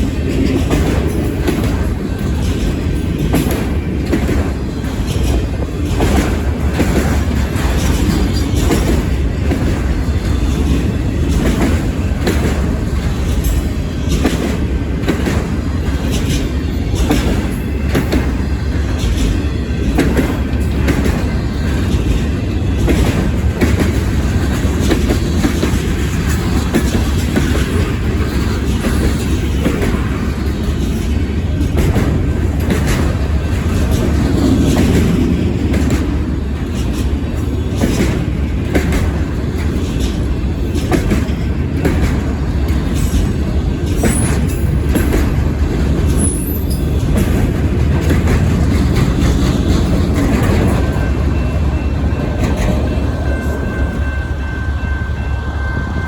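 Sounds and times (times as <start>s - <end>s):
wheels clicking over rail joints: 0.0s - 54.4s
freight train rumbling: 0.0s - 56.0s.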